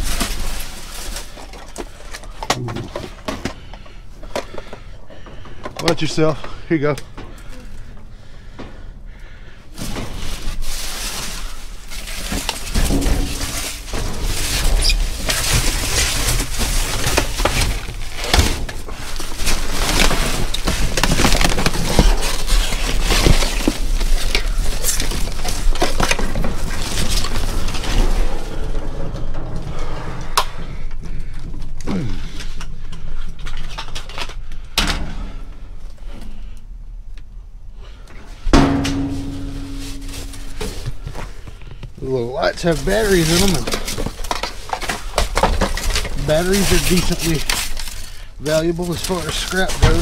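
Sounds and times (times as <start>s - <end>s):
trash crunching and crinkling: 0.0s - 30.0s, 38.5s - 50.0s.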